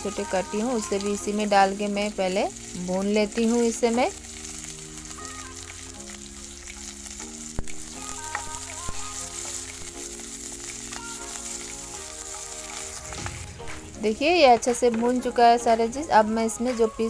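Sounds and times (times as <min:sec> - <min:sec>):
onions sizzling in hot oil: 0:00.0 - 0:17.0
soft background music: 0:00.0 - 0:17.0.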